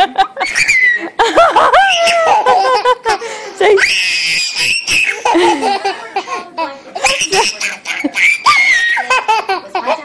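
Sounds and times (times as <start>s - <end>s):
toddler giggling: 0.4s - 3.3s, 4.6s - 10.0s.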